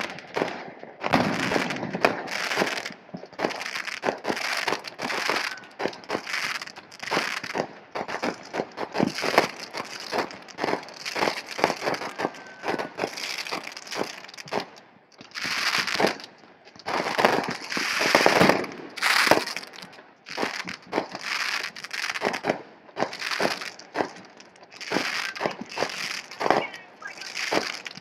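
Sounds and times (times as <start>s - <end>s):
fireworks bangs and crackles: 0.0s - 28.0s
fireworks hissing and fizzing: 0.0s - 28.0s.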